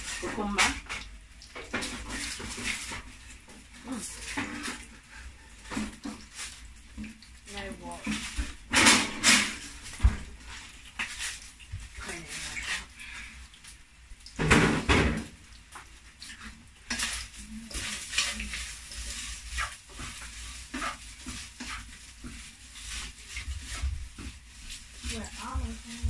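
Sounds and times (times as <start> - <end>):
faint sizzle: 0.0 - 26.0
wooden spatula scraping frying pan: 1.6 - 7.2, 7.8 - 13.4, 16.1 - 26.0.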